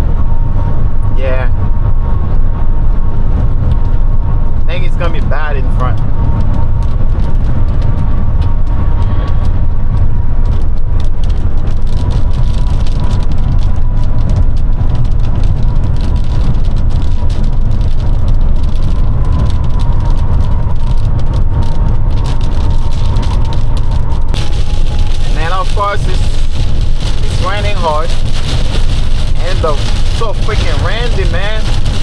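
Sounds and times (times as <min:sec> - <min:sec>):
truck cab road and wind rumble: 0:00.0 - 0:32.0
rain ticking on windshield: 0:02.8 - 0:32.0.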